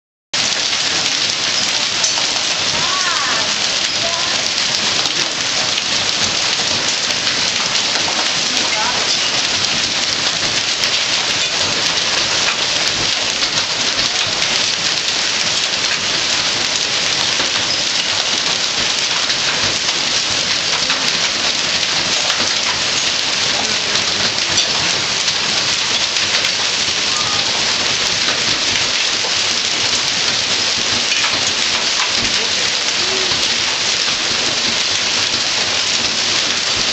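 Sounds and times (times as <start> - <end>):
hail and rain pelting: 0.4 - 36.9.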